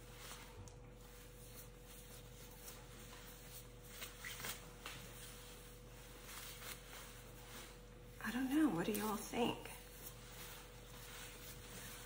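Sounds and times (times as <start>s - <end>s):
faint steady hum: 0.0s - 12.0s
wet hair being combed: 0.0s - 12.0s.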